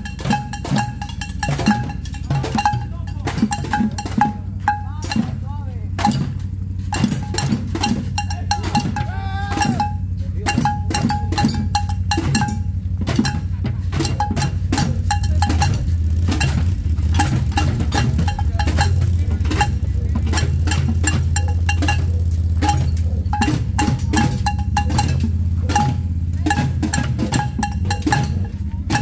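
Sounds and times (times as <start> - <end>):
pots and pans clanging: 0.0 - 5.4, 6.0 - 29.0
voices: 0.0 - 29.0.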